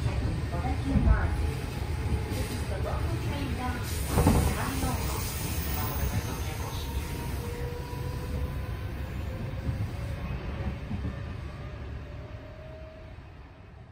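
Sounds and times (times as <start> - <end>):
electric train rumbling: 0.0 - 13.9.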